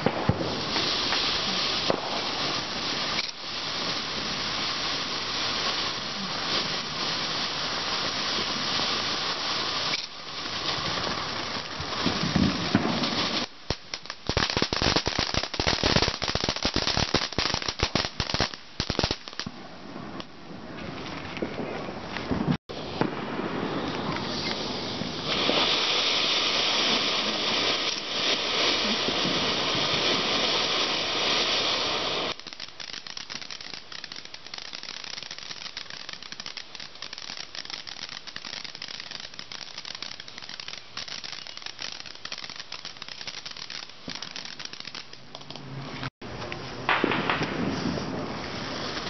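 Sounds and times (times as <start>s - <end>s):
fireworks hissing and crackling: 0.0s - 49.0s.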